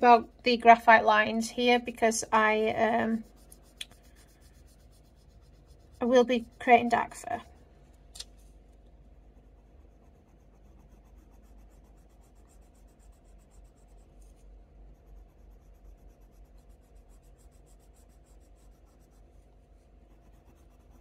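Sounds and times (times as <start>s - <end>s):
pencil scratching on paper: 0.0s - 7.7s, 8.4s - 21.0s.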